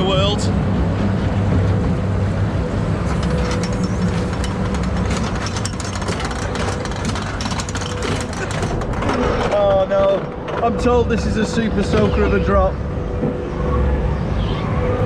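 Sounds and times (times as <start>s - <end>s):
low mechanical hum: 0.0s - 15.0s
machinery clicking and clatter: 1.0s - 13.4s.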